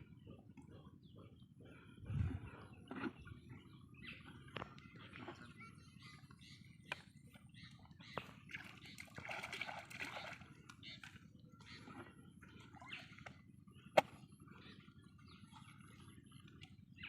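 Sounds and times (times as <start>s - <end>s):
water sloshing and splashing: 2.1s - 5.6s, 6.2s - 16.8s.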